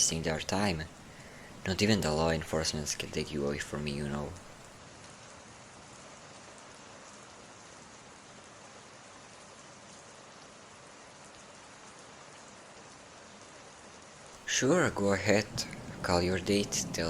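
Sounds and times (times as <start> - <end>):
soft patter of rain: 0.0 - 17.0.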